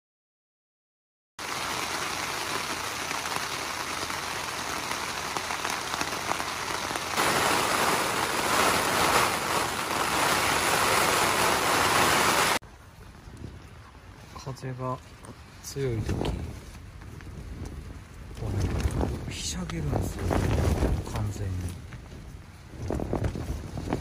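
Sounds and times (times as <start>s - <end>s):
rain pattering on tent: 1.4s - 12.6s, 13.3s - 24.0s.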